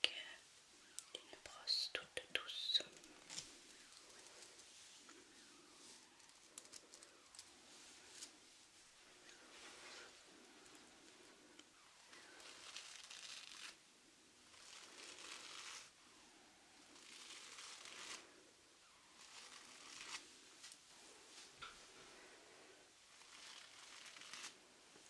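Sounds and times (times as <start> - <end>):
soft rustling strokes: 0.4 - 25.0.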